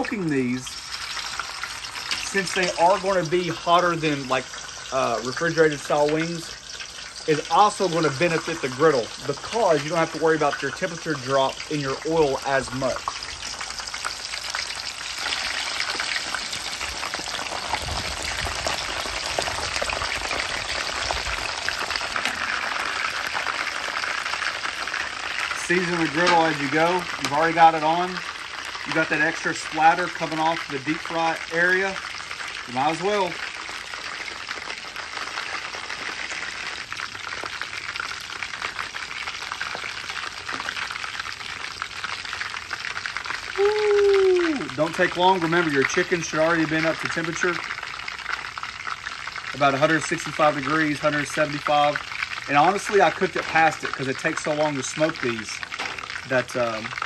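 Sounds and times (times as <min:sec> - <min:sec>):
chicken deep-frying in oil: 0:00.0 - 0:57.0.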